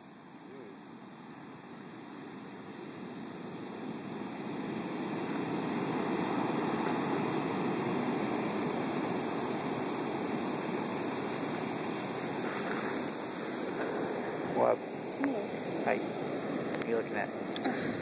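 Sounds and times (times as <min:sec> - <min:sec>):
waves breaking on beach: 0:00.0 - 0:18.0.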